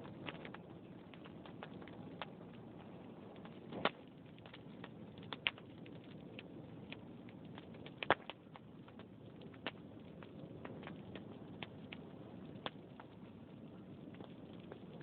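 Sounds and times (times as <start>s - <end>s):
log fire crackling and popping: 0.0s - 15.0s.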